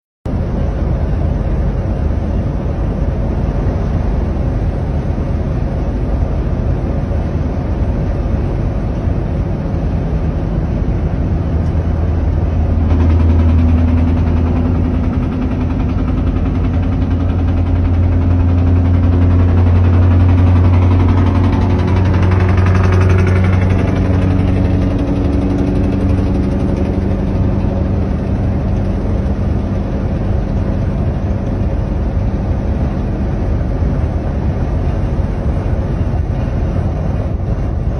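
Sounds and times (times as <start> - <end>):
diesel engine running: 0.3 - 37.9.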